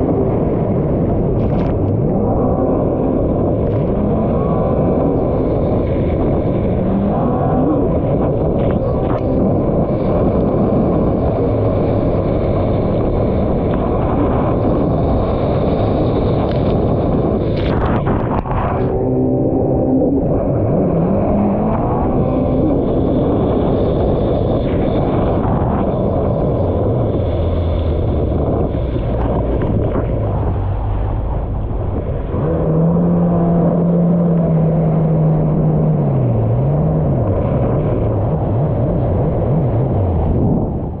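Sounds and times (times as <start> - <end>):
dense rushing noise: 0.0 - 41.0
jet ski engine revving: 0.0 - 41.0.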